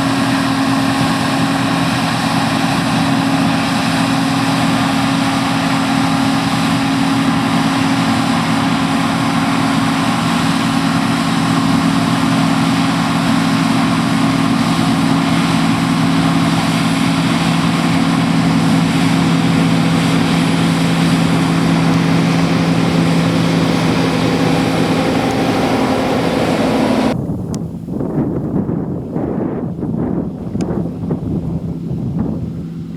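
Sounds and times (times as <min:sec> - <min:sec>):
diesel engine running under load: 0:00.0 - 0:27.2
wind on the microphone: 0:00.0 - 0:32.9.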